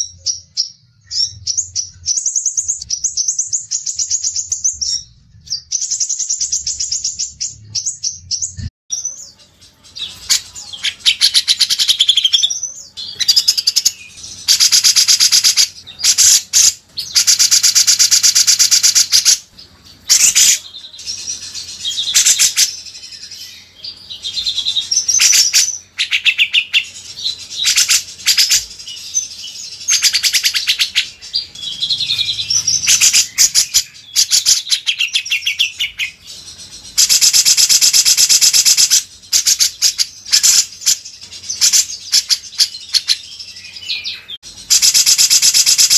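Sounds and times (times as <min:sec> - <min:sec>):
songbirds trilling: 0:00.0 - 0:45.9.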